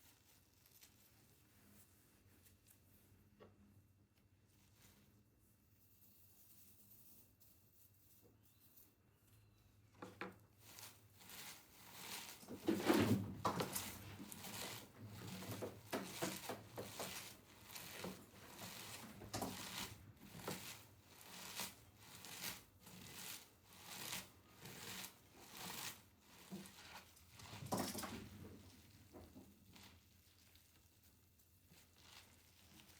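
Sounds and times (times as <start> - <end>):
rustling and scraping strokes: 0.0 - 3.4, 4.1 - 9.7, 10.4 - 32.9.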